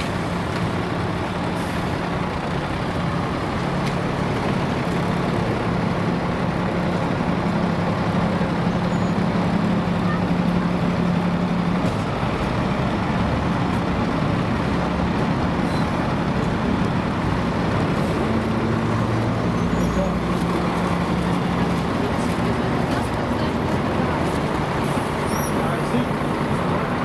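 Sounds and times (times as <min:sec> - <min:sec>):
bus engine hum: 0:00.0 - 0:27.0.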